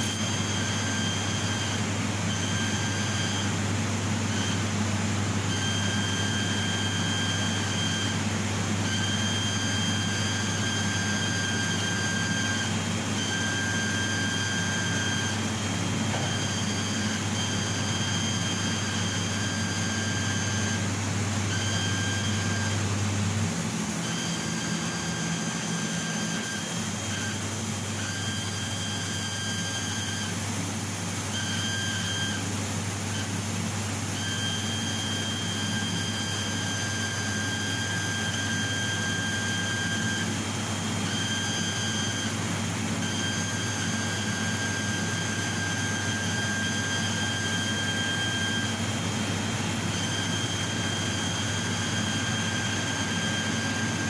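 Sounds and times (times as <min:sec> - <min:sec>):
high machine whine: 0:00.0 - 0:54.0.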